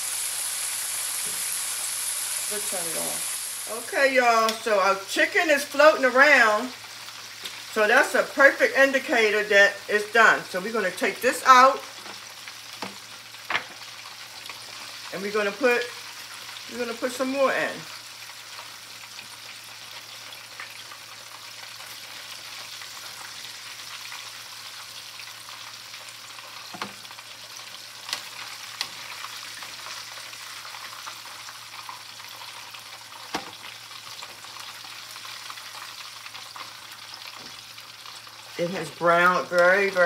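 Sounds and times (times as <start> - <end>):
chicken sizzling in hot oil: 0.0 - 40.0.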